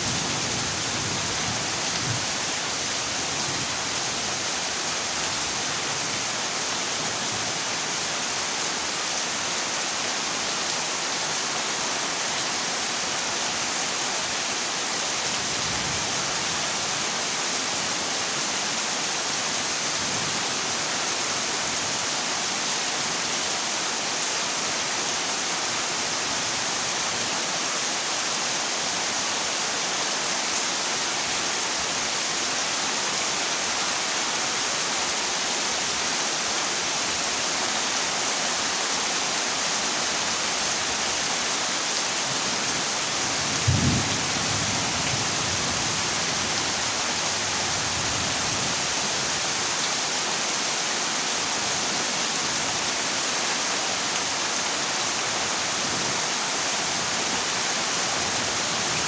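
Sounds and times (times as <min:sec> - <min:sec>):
heavy rain on metal roof: 0:00.0 - 0:59.0.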